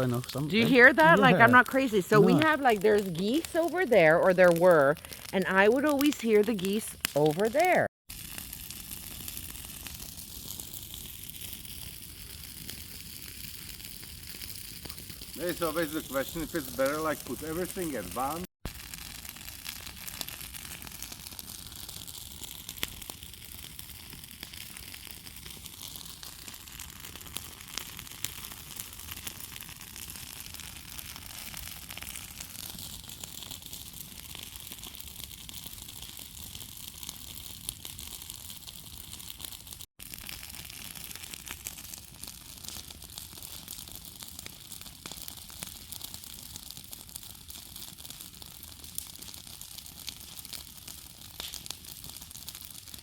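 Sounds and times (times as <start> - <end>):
bonfire crackling and hissing: 0.0 - 53.0.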